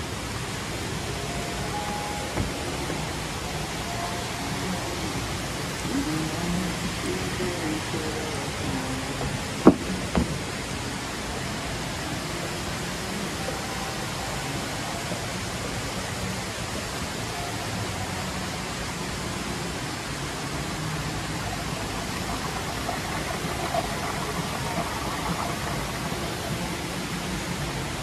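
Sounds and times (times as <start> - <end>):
running water from fountains: 0.0 - 28.0.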